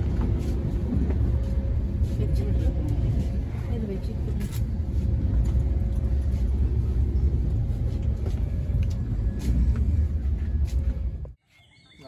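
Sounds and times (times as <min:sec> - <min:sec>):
train rumbling: 0:00.0 - 0:11.4.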